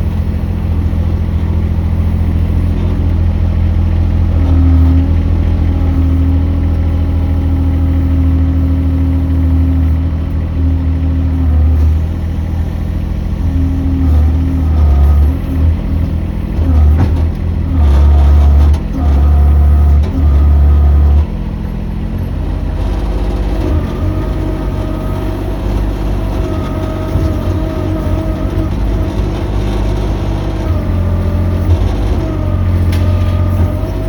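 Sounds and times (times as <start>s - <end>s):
engine whine: 0.0s - 34.0s
excavator engine rumbling: 0.0s - 34.0s.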